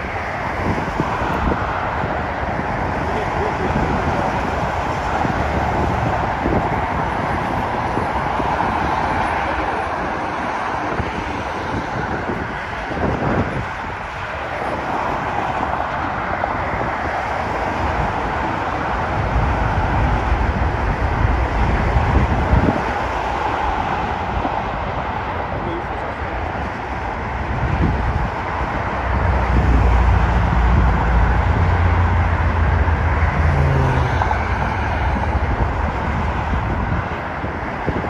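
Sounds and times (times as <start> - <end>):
distant jet engines roaring: 0.0 - 38.0
road traffic: 0.0 - 38.0.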